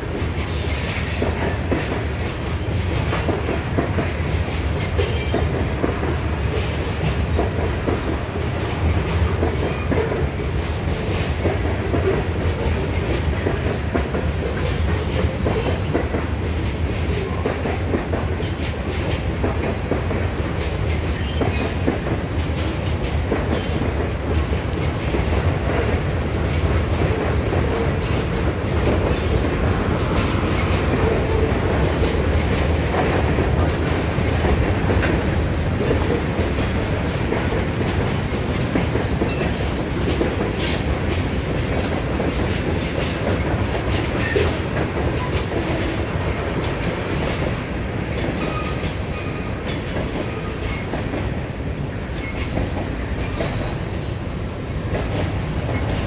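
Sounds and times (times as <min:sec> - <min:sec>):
freight train wheels rumbling: 0:00.0 - 0:56.0
wheels clacking over rail joints: 0:00.0 - 0:56.0.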